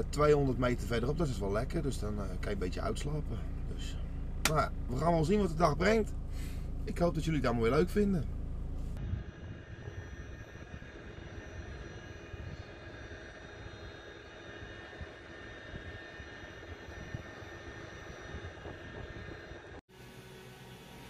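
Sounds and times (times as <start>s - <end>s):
faint whining tones: 0.0s - 21.0s
truck engine rumbling: 0.0s - 21.0s.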